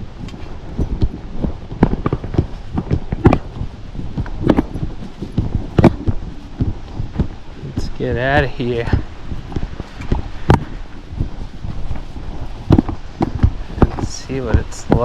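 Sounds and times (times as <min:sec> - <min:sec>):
footsteps on rough ground: 0:00.0 - 0:15.0.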